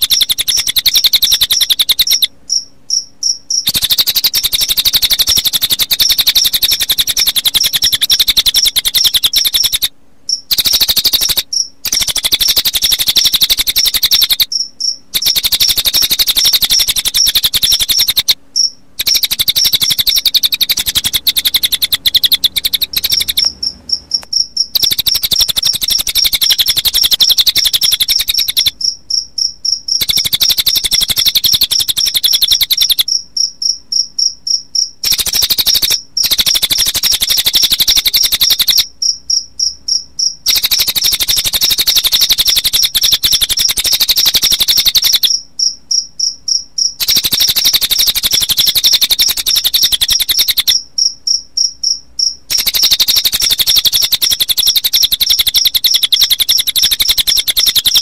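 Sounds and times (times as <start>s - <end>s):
high-pitched bird trill: 0.0s - 33.2s, 35.0s - 45.4s, 47.0s - 50.8s, 52.5s - 58.0s
crickets chirping: 0.0s - 58.0s.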